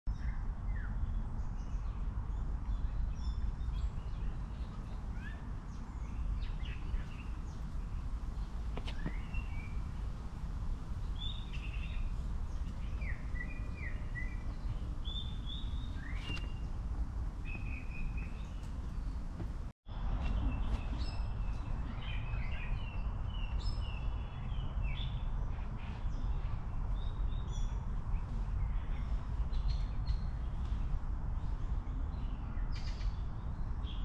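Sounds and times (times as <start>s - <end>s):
small birds chirping: 0.1s - 34.0s
low outdoor rumble: 0.7s - 32.5s.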